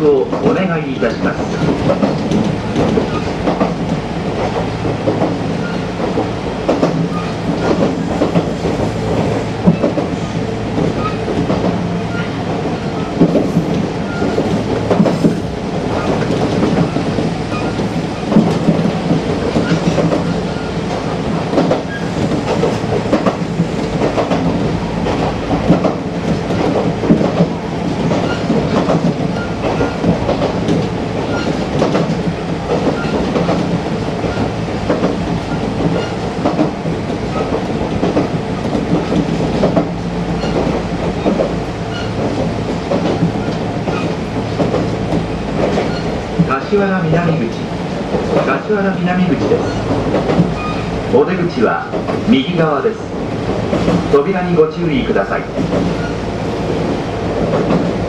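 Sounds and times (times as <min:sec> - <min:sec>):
train running gear hum: 0:00.0 - 0:58.0
wheels clicking over rail joints: 0:00.3 - 0:54.3, 0:56.8 - 0:58.0.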